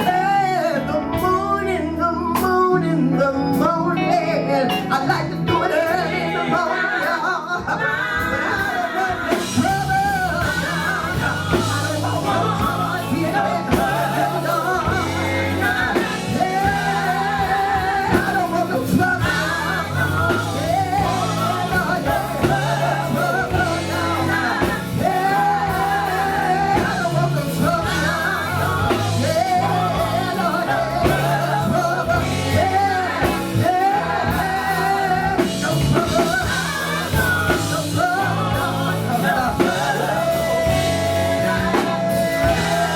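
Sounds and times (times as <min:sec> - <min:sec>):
bass guitar: 0:00.0 - 0:42.9
electric guitar: 0:00.0 - 0:42.9
lead vocals singing: 0:00.0 - 0:42.9
drums: 0:05.8 - 0:42.9.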